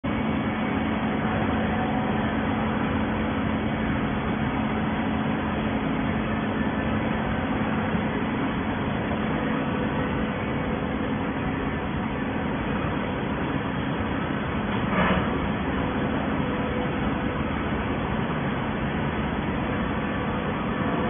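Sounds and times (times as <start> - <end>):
baling machine humming: 0.0 - 21.0.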